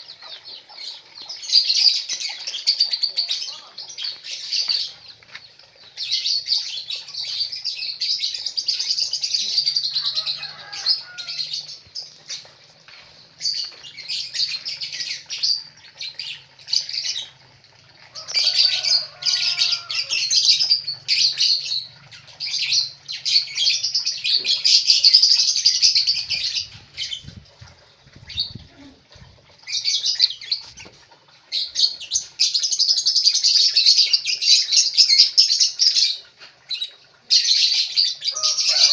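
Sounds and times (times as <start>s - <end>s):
lovebirds chattering: 0.0s - 17.5s, 18.2s - 36.9s.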